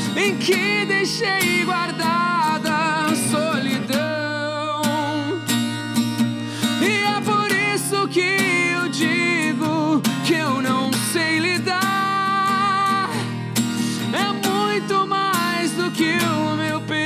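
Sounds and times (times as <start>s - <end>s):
man singing a slow pop ballad: 0.0s - 5.6s, 6.6s - 17.0s
acoustic guitar: 0.0s - 17.0s.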